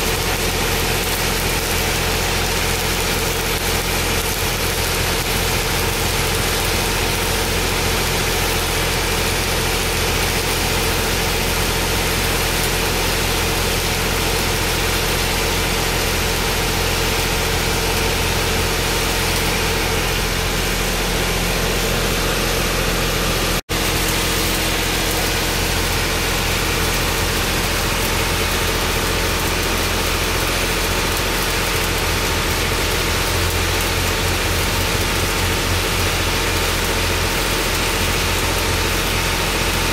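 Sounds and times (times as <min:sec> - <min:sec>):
low machine hum: 0:00.0 - 0:39.9
welding arc crackling and hissing: 0:00.0 - 0:39.9.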